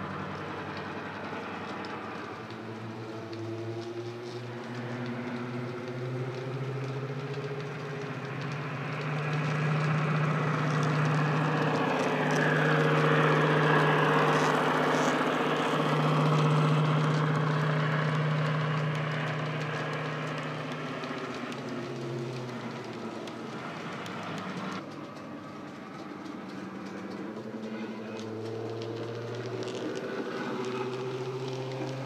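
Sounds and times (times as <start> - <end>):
diesel engine drone: 0.0 - 32.0.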